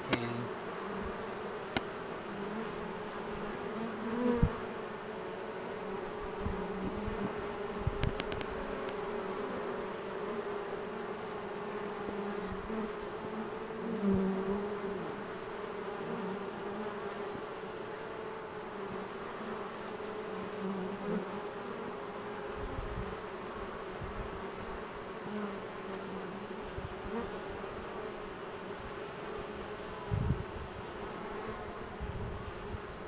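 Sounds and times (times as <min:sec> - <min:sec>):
bee swarm buzzing: 0:00.0 - 0:33.0.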